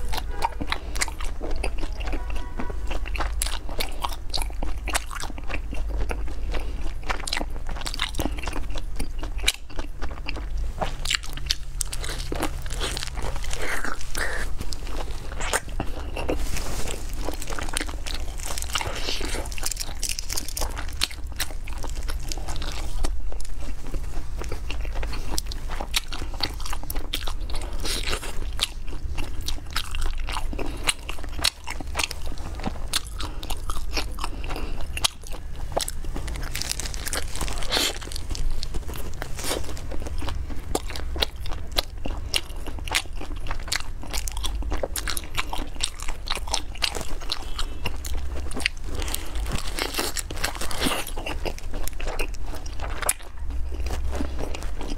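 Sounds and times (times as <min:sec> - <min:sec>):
crunchy chewing: 0:00.0 - 0:54.9.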